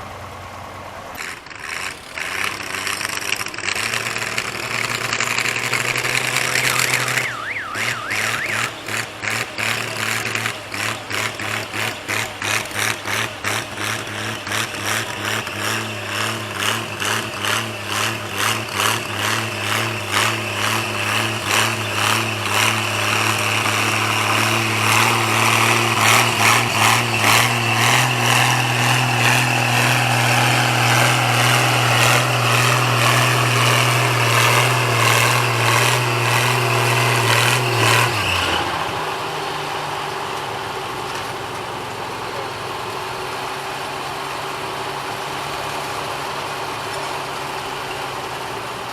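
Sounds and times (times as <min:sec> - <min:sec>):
tractor engine under load: 0:00.0 - 0:48.9.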